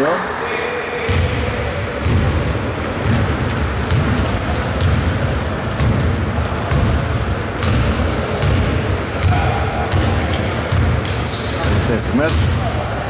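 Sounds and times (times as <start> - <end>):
sneakers squeaking on floor: 0.6 - 12.6
basketball dribbling thuds: 1.1 - 12.6.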